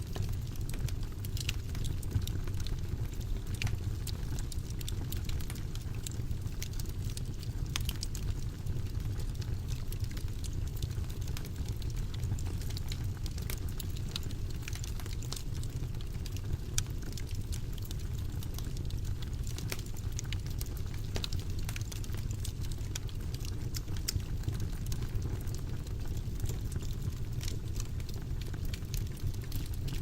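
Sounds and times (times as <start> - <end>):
fire crackles and pops: 0.0 - 30.0
low rumble of flames: 0.0 - 30.0.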